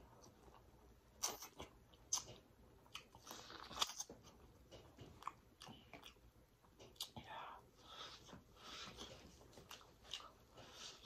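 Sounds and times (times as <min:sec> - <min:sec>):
chewing: 0:00.2 - 0:07.3, 0:08.7 - 0:11.0.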